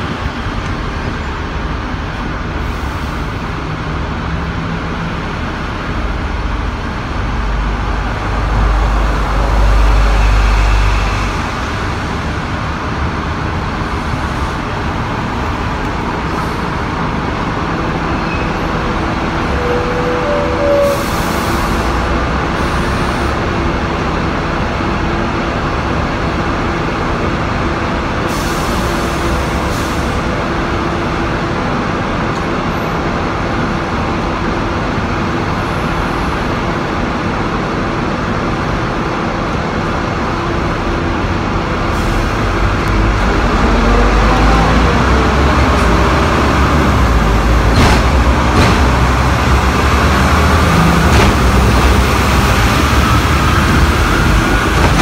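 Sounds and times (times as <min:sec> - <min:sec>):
street traffic: 0:00.0 - 0:55.0.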